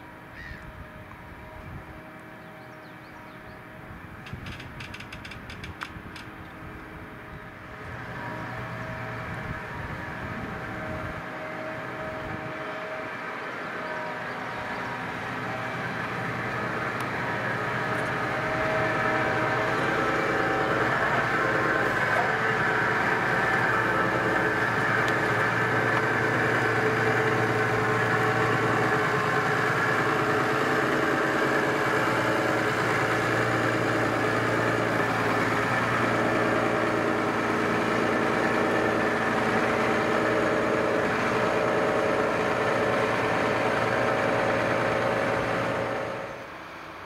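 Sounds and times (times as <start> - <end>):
tractor diesel engine under load: 0.0 - 47.0.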